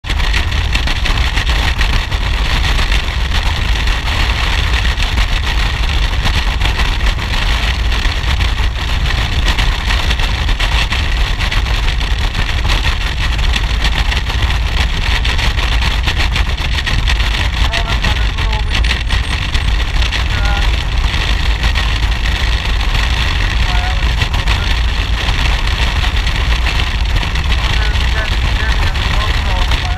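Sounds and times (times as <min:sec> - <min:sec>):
motorcycle engine rumble: 0:00.0 - 0:29.9
wind buffeting microphone: 0:00.0 - 0:29.9.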